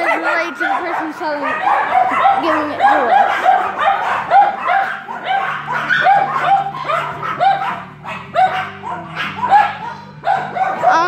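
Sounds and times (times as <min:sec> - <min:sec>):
dogs yapping: 0:00.0 - 0:11.0.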